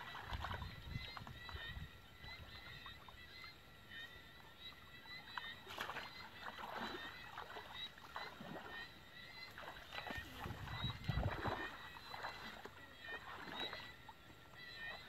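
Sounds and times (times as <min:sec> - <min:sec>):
people wading through water: 0:00.0 - 0:15.0.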